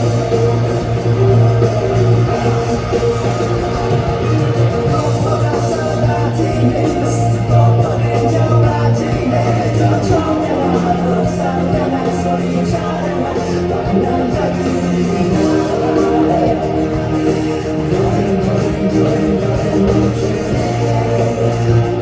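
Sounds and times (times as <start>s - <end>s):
guitars: 0.0s - 22.0s
person singing: 0.0s - 22.0s
rock band playing: 0.0s - 22.0s.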